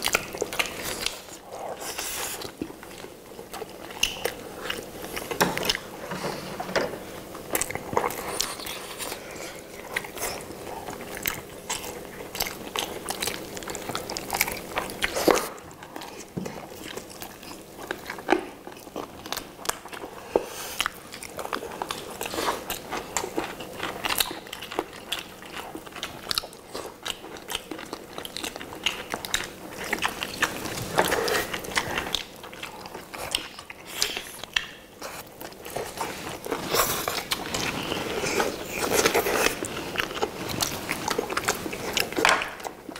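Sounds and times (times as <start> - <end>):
people biting and chewing chicken: 7.3 - 42.9.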